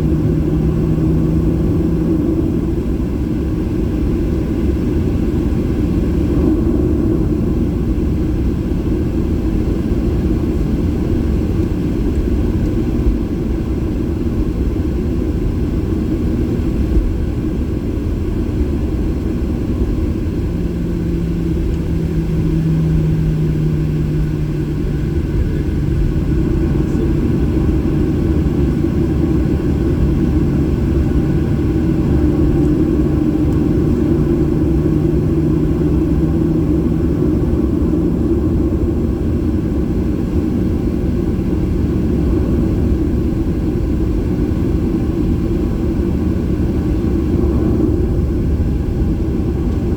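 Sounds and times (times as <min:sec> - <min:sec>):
airplane cabin rumble: 0:00.0 - 0:49.9
low hum: 0:00.0 - 0:49.9.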